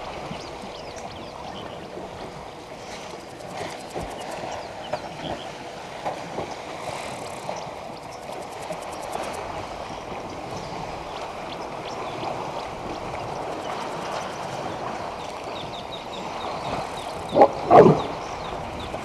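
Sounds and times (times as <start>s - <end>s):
water sloshing: 0.0s - 19.0s.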